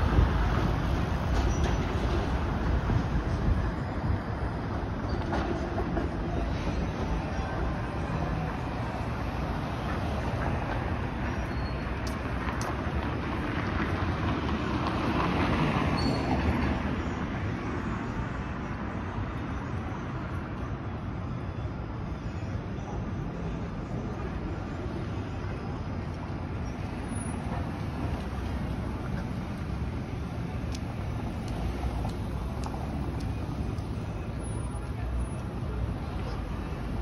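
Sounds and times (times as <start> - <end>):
city street traffic: 0.0 - 37.0
streetcar running on rails: 0.0 - 37.0.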